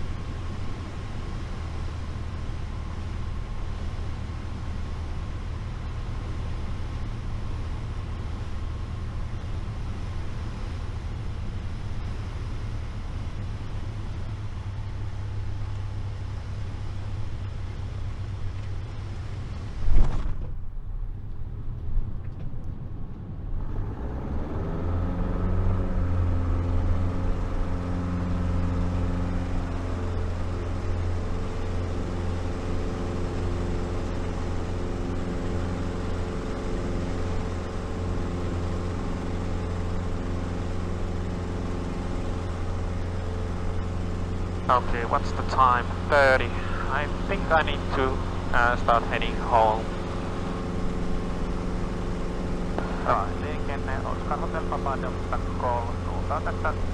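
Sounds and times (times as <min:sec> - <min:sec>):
light aircraft engine: 0:00.0 - 0:56.9.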